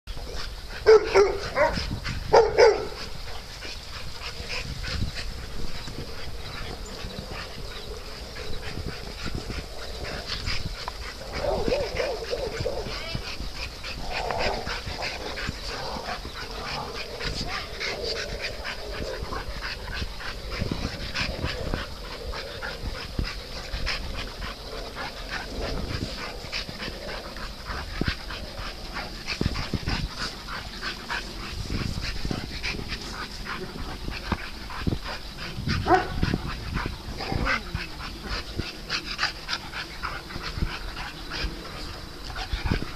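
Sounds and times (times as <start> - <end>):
dogs playing: 0.1 - 42.9.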